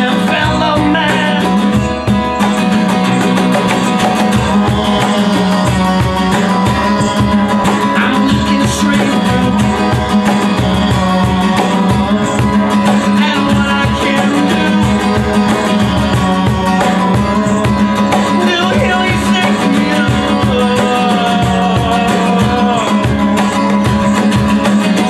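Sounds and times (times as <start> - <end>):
live band music led by guitar: 0.0 - 25.0.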